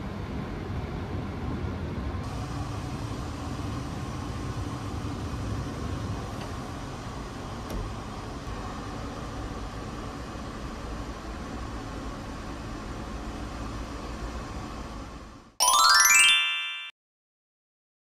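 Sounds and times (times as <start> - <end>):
train car rumble and hiss: 0.0 - 15.6.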